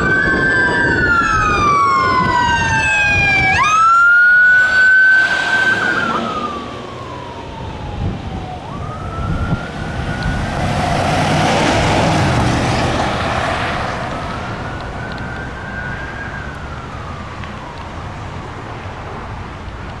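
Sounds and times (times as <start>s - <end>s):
fire engine siren wailing: 0.0s - 20.0s
road and engine noise: 0.0s - 20.0s.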